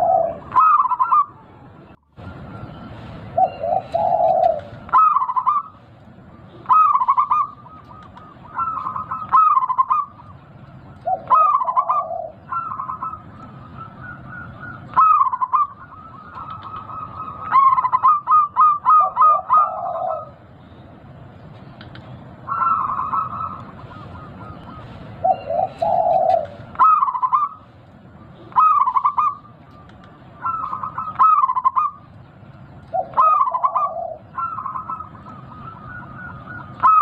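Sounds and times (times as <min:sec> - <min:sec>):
zebra dove cooing: 0:00.0 - 0:01.5, 0:03.4 - 0:05.8, 0:06.4 - 0:20.5, 0:22.4 - 0:32.1, 0:32.9 - 0:37.0.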